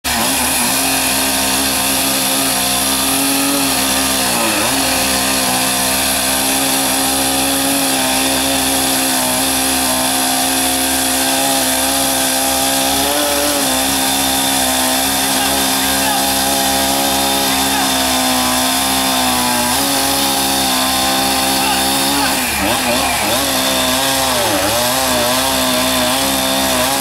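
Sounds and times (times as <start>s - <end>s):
small engine running at high speed: 0.0s - 27.0s.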